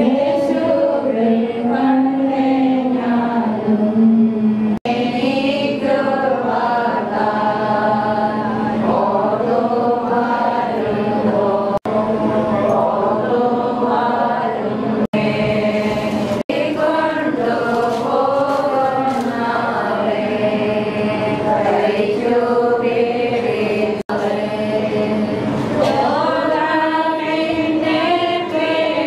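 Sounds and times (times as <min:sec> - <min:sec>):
voices chanting a hymn: 0:00.0 - 0:29.0.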